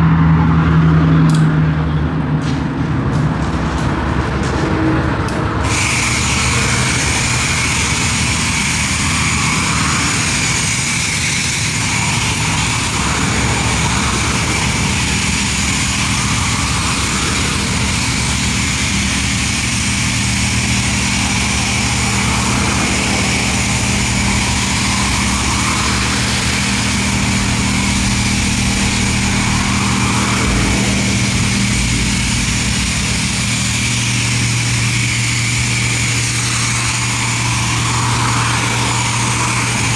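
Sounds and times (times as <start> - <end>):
motor drone with high whine: 0.0 - 39.9
loud hiss: 5.6 - 39.9.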